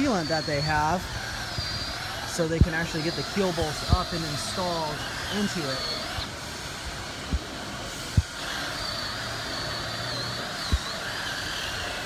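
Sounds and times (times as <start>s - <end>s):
power drill whining: 0.0s - 12.0s.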